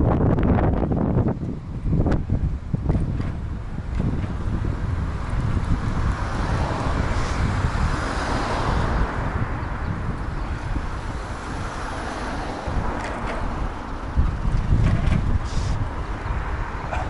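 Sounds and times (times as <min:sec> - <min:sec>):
road traffic noise: 0:00.0 - 0:17.0
wind buffeting microphone: 0:00.0 - 0:17.0.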